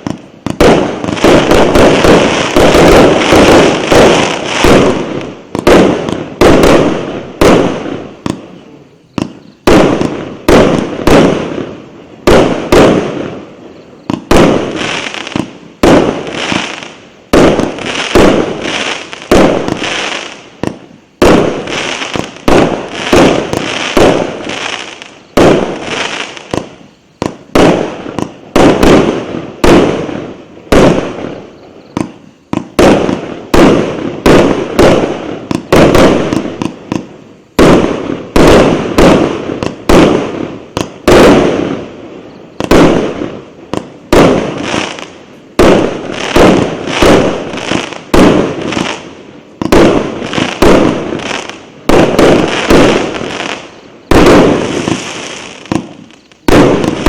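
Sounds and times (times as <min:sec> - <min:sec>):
firework battery firing: 0:00.0 - 0:57.0.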